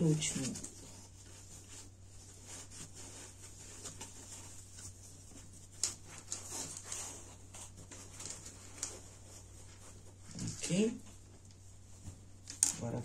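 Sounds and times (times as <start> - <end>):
fabric rustling and rubbing: 0.0 - 13.0
low steady hum: 0.0 - 13.0
soft brushing strokes: 0.0 - 13.0.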